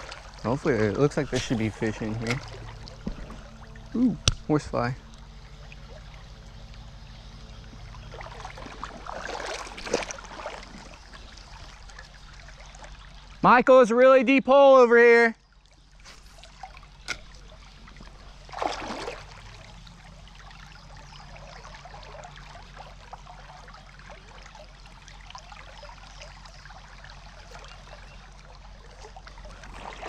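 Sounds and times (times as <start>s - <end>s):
creek water trickling: 0.0s - 30.0s.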